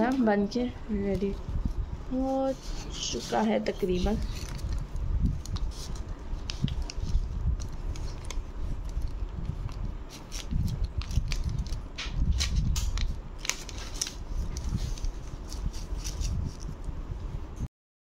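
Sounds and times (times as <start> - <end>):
paper and plastic sheet crinkling: 2.1 - 16.8.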